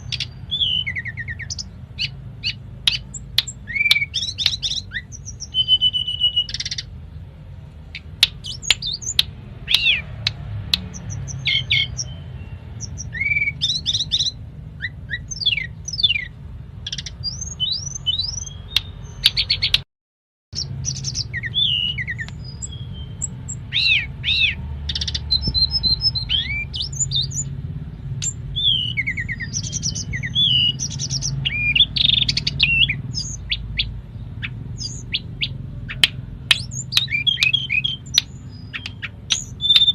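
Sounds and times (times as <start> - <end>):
songbird singing: 0.0 - 19.8, 20.5 - 39.9.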